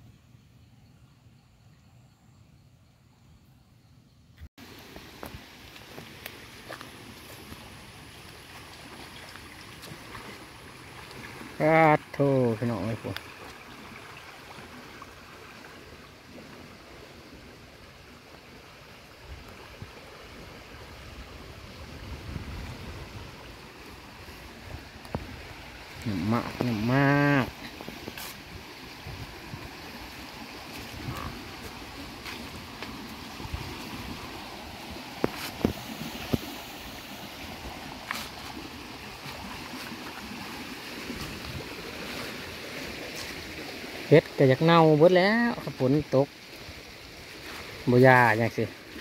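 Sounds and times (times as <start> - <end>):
creek water rushing: 4.6 - 49.0.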